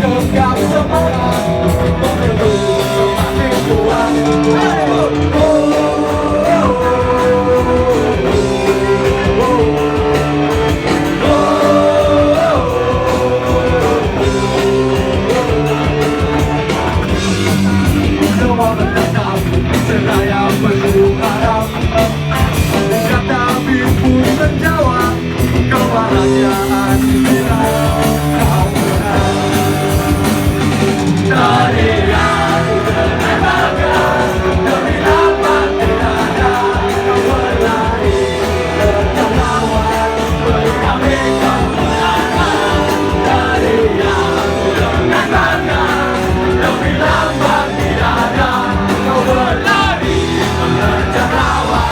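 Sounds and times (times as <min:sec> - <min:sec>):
live rock band playing: 0:00.0 - 0:51.9
person singing: 0:00.0 - 0:51.9.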